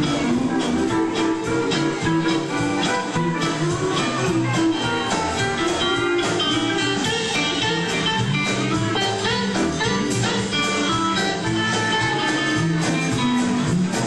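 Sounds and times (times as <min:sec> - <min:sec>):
country band playing: 0:00.0 - 0:14.0
guitar: 0:00.0 - 0:14.0.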